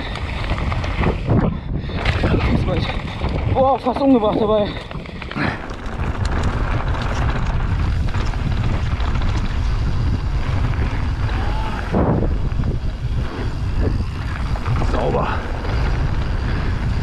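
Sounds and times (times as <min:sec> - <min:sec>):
bike knocking and rattling: 0:00.0 - 0:17.0
bike tyres rolling over gravel: 0:00.0 - 0:17.0
wind rushing over microphone: 0:00.0 - 0:17.0.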